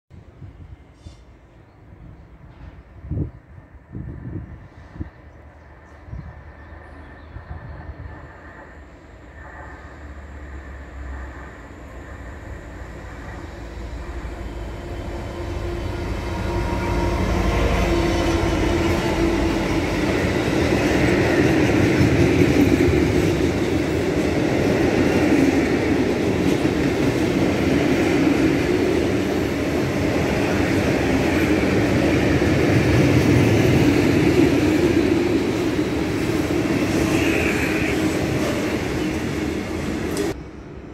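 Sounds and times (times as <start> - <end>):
diesel locomotive passing: 0.2 - 40.9
train wheels on rails: 2.2 - 5.8, 7.8 - 40.5.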